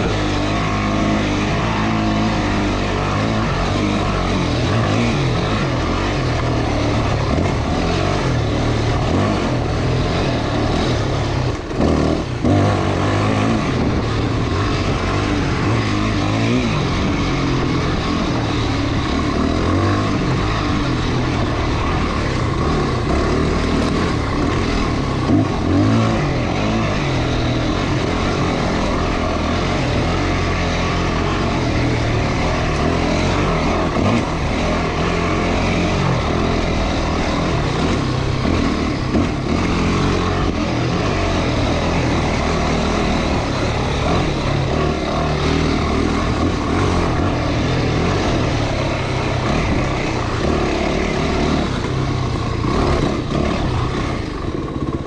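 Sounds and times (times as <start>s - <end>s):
constant rushing noise: 0.0s - 55.0s
motorcycle engine running: 0.0s - 55.0s.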